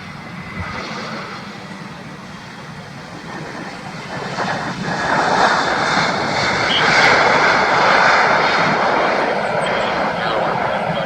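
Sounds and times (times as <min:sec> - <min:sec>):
airliner jet engines roaring: 0:00.0 - 0:11.0.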